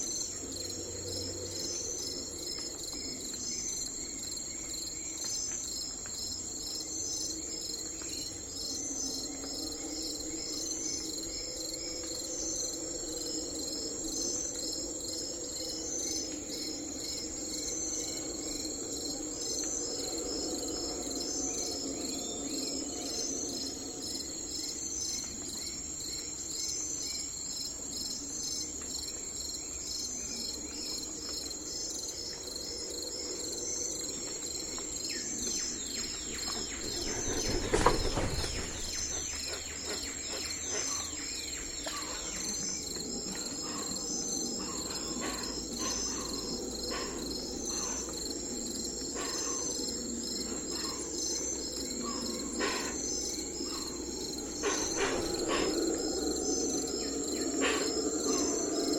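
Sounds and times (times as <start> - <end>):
crickets and insects chorus: 0.0 - 58.9.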